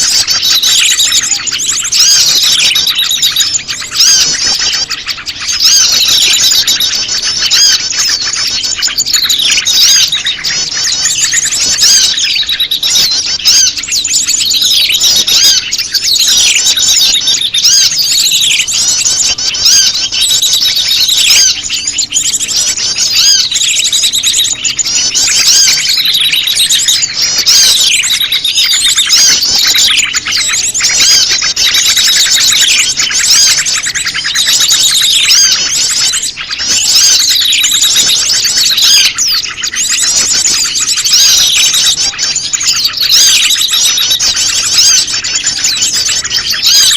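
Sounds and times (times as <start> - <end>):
bird calls: 0.0 - 46.9
chorus of small birds chattering: 0.0 - 46.9.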